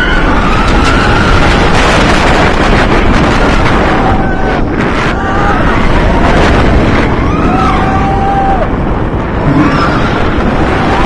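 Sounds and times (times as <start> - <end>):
roller coaster train rumbling: 0.0 - 11.0
wind rushing over microphone: 0.0 - 11.0.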